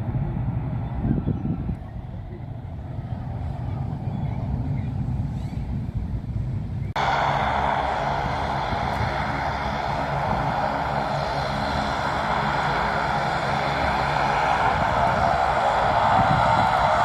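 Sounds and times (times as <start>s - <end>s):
airplane engines droning: 0.0s - 17.0s.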